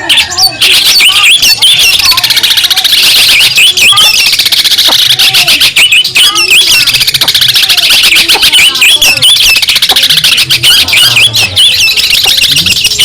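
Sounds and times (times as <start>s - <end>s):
bird singing chattering song: 0.0s - 13.0s.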